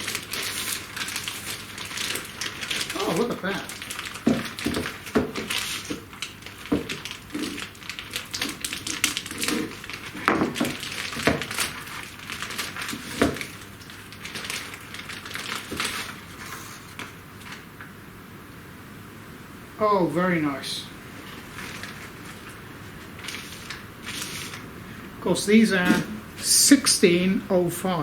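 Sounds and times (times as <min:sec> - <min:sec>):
plastic crinkling and rustling: 0:00.0 - 0:17.9, 0:21.1 - 0:26.8.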